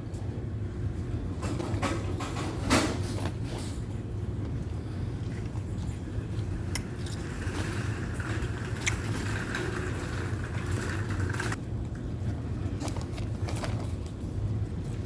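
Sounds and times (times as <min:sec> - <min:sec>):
laundromat machines humming: 0:00.0 - 0:15.0.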